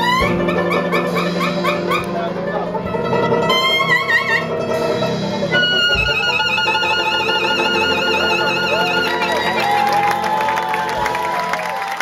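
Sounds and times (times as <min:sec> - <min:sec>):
clarinet jazz solo with vibrato: 0:00.0 - 0:09.8
banjo: 0:00.0 - 0:10.1
drums: 0:00.0 - 0:12.0.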